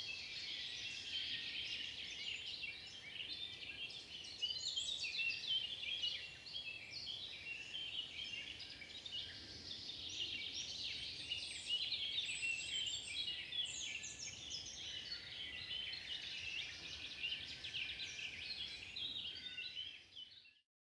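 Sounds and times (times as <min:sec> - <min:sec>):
songbirds chirping and twittering: 0:00.0 - 0:20.6.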